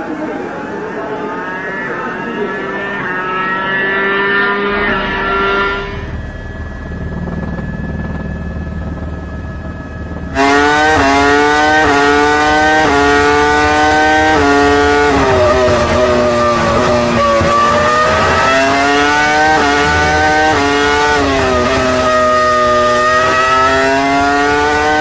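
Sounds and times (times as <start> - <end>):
racing car engine shifting gears: 1.6 - 25.0.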